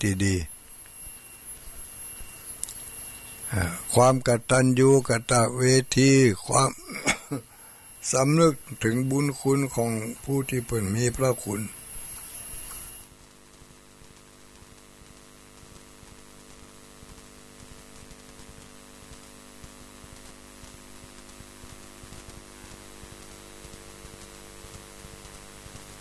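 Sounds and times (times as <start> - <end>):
electrical hum: 0.0 - 26.0
static hiss with crackles: 0.0 - 26.0.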